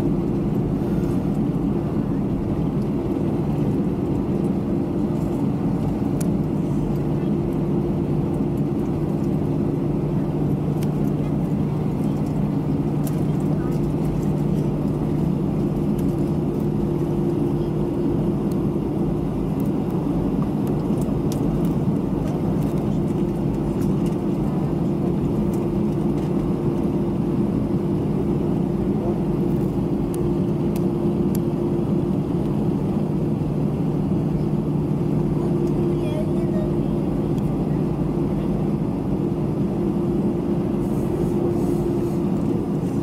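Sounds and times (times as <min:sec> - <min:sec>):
jet engines humming at idle: 0:00.0 - 0:43.0.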